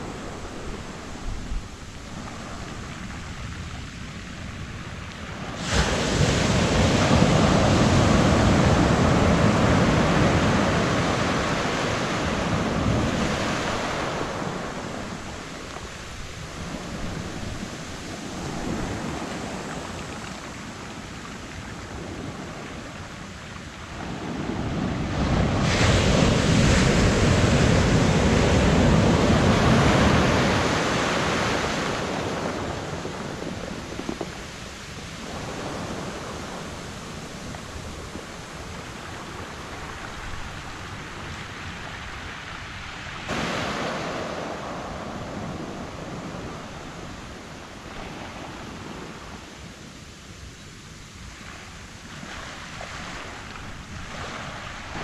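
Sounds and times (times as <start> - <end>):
ocean surf breaking on shore: 0.0 - 55.0.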